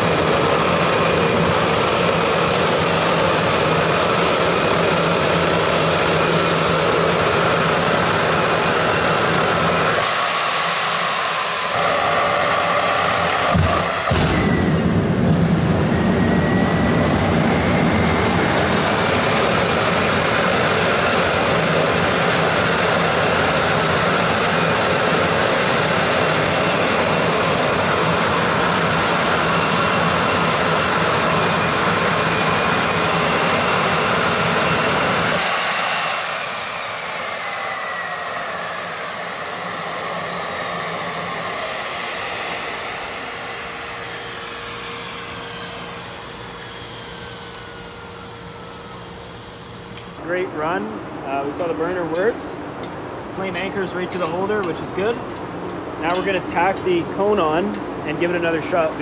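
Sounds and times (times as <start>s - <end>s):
jet engine roaring with turbine whine: 0.0s - 59.0s.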